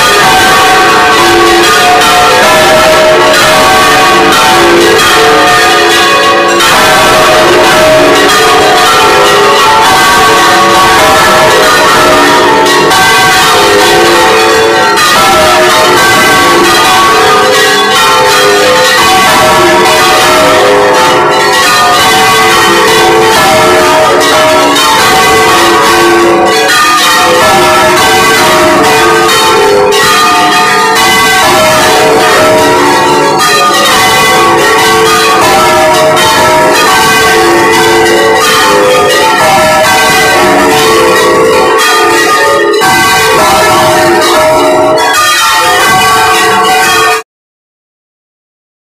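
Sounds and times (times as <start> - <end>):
church bells ringing: 0.0 - 47.2.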